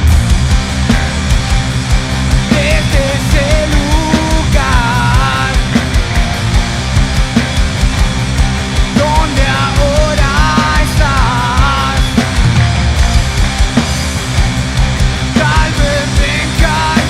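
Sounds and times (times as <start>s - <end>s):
bending lead melody: 0.0s - 17.0s
distorted guitars: 0.0s - 17.0s
live rock band playing: 0.0s - 17.0s
pounding drums: 0.0s - 17.0s.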